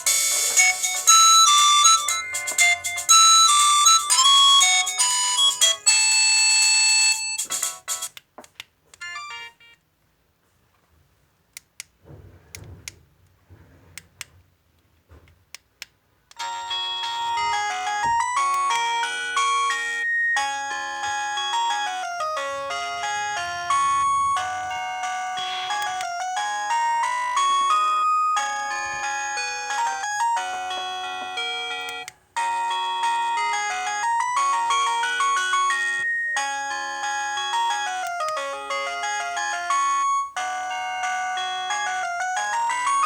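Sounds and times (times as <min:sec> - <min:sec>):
phone alarm melody: 0:00.0 - 0:08.1, 0:09.0 - 0:09.8, 0:16.4 - 0:43.0.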